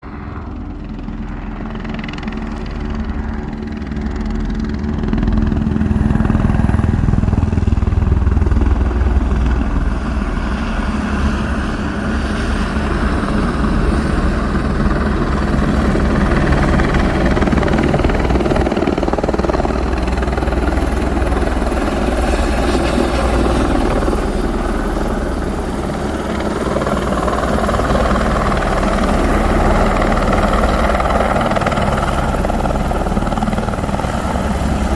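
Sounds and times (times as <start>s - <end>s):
helicopter rotor beating: 0.0s - 34.9s.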